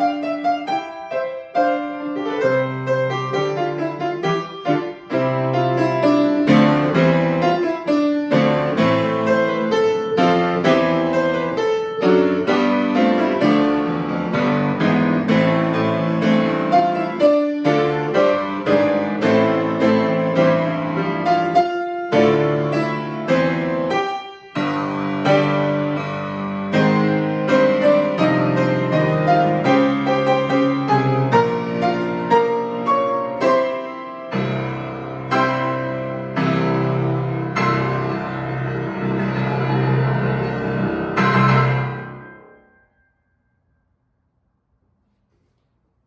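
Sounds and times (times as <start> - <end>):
piano playing hymn chords: 0.0 - 43.0.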